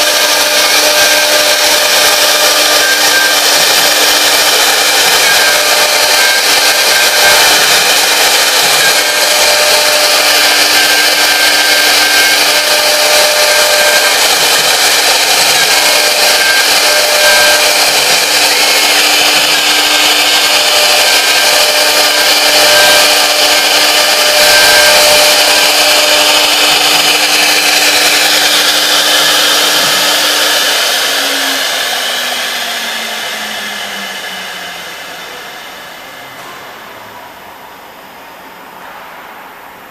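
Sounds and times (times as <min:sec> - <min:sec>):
router spindle whining: 0:00.0 - 0:37.7.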